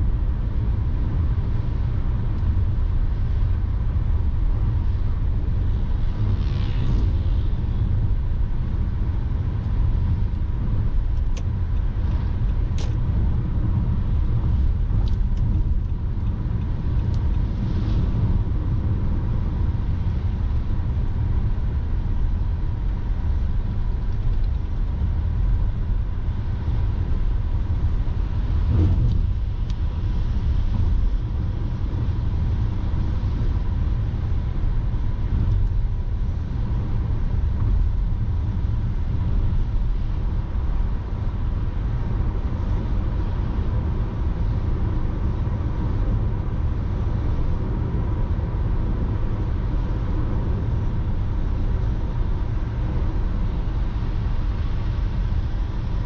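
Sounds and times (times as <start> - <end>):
car tyres and engine rumbling: 0.0 - 56.0.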